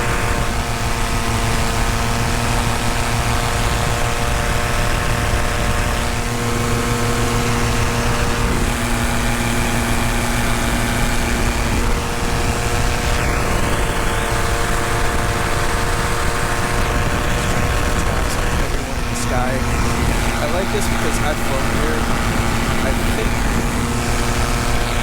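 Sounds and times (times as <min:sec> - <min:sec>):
paramotor engine droning: 0:00.0 - 0:25.0.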